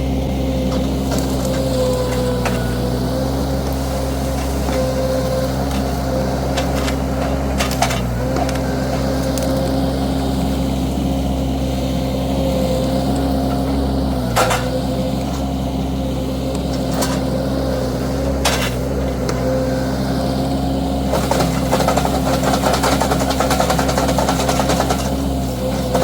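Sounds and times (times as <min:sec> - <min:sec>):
skid steer engine running: 0:00.0 - 0:26.0.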